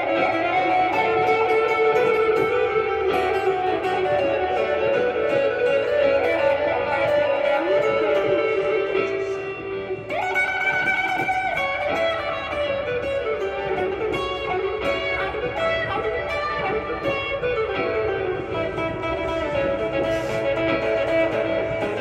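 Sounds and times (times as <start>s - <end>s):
acoustic guitar lead line: 0.0s - 22.0s.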